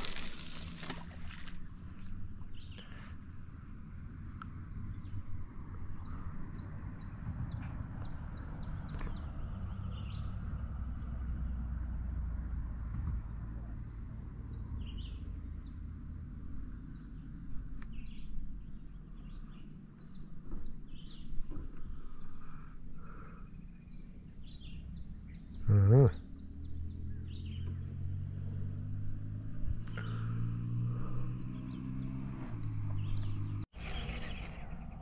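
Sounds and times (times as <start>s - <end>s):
birds chirping: 0.0s - 10.7s, 12.6s - 28.5s, 29.2s - 35.0s.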